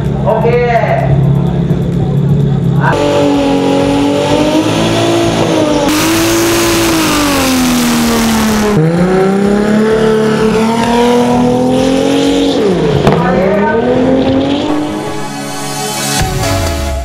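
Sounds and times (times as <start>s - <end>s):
race car engine at high revs: 0.0s - 16.2s.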